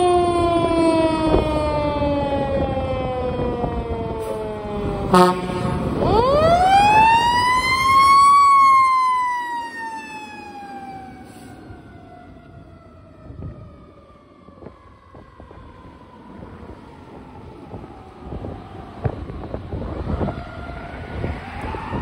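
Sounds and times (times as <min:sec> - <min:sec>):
fire engine mechanical siren: 0:00.0 - 0:22.0.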